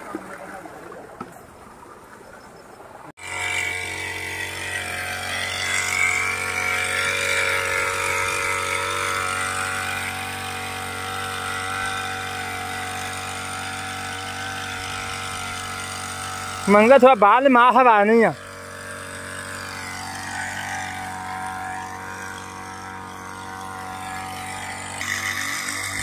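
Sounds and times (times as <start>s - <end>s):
outdoor ambience: 0.0s - 26.0s
two-stroke sprayer engine running: 3.2s - 26.0s.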